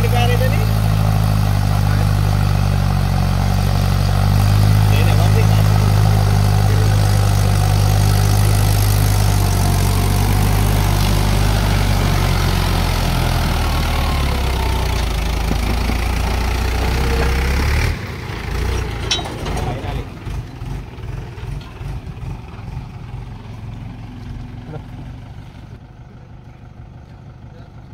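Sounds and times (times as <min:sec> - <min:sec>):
tractor diesel engine droning: 0:00.0 - 0:27.9.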